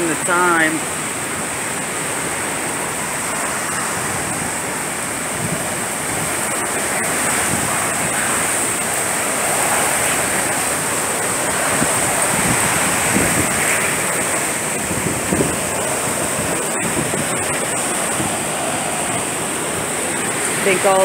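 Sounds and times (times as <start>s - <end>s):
strong wind and rain: 0.0s - 21.0s.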